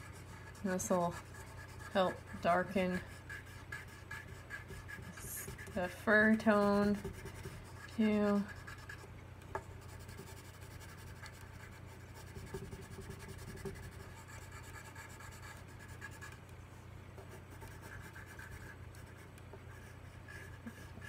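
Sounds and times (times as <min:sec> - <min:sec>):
colored pencil scratching on paper: 0:00.0 - 0:09.0, 0:09.7 - 0:16.4, 0:17.2 - 0:21.0
steady low hum: 0:00.0 - 0:21.0.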